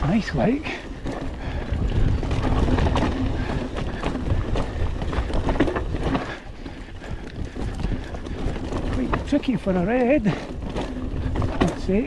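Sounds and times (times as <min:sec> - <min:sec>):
bike rattling: 0:00.0 - 0:12.0
bike tyres rumbling over dirt: 0:00.0 - 0:12.0
wind buffeting microphone: 0:00.0 - 0:12.0.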